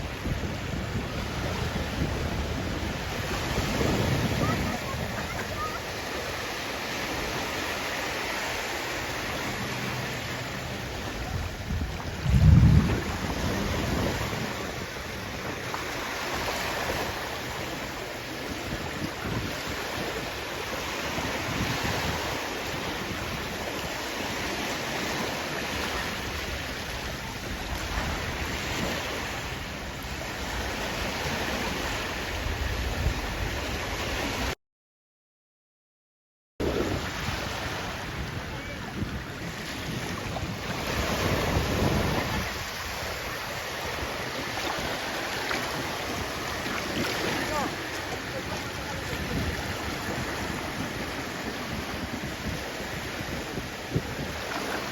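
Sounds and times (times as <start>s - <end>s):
sea waves washing in: 0.0s - 34.6s, 36.6s - 54.9s
wind on microphone: 0.0s - 34.6s, 36.6s - 54.9s.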